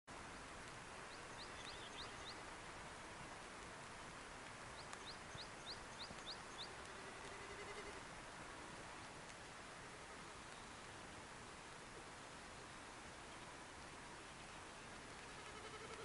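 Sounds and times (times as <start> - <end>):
faint steady hiss: 0.1 - 16.0.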